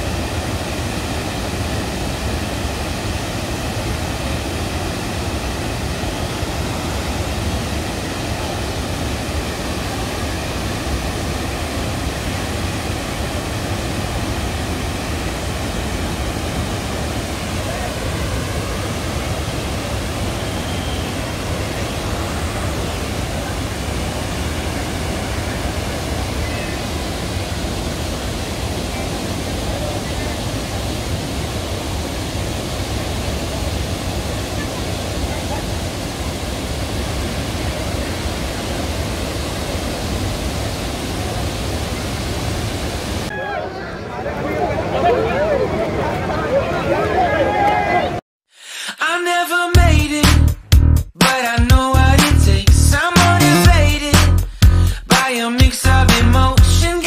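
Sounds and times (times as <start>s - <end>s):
waterfall rushing: 0.0s - 48.2s, 51.2s - 57.0s.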